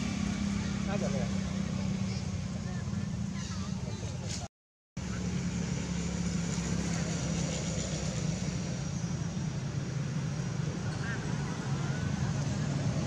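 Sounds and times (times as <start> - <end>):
engine running hum: 0.0 - 13.0.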